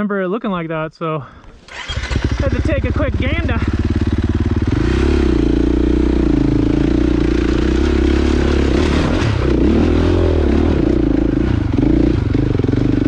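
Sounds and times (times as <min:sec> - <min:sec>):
dirt bike engine revving: 0:01.6 - 0:13.0.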